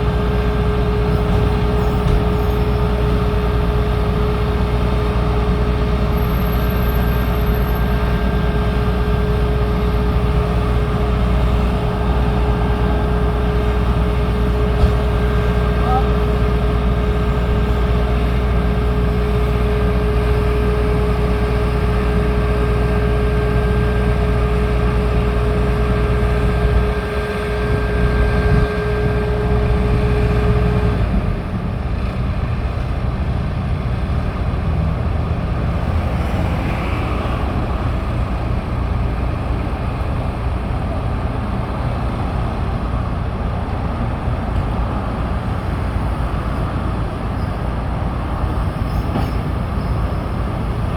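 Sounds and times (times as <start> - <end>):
engine deep rumble: 0.0 - 50.9
engine whine: 0.0 - 50.9
rough noisy engine: 0.0 - 50.9.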